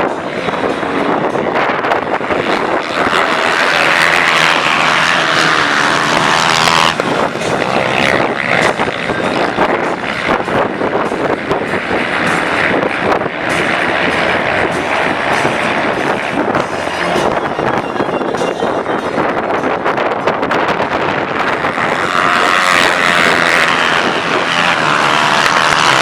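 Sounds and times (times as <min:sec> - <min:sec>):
racing motorcycle engines revving: 0:00.0 - 0:26.0.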